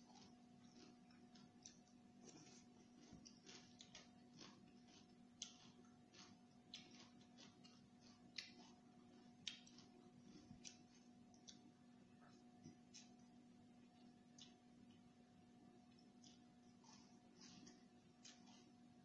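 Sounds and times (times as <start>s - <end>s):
wet chewing clicks and lip smacks: 0.0s - 13.3s, 13.9s - 15.0s, 15.9s - 18.8s
low steady hum: 0.0s - 19.0s.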